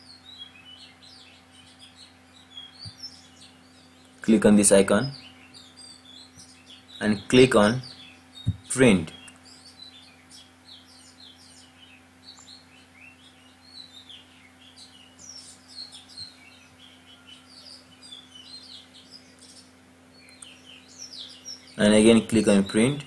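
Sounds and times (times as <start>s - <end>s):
faint steady hum: 0.0s - 23.0s
small birds chirping: 0.0s - 23.0s.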